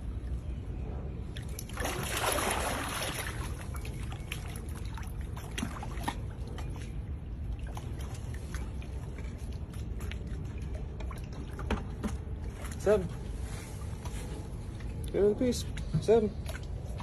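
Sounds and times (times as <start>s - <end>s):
water lapping and trickling: 0.0s - 17.0s
small water drips: 1.3s - 13.2s, 13.8s - 17.0s.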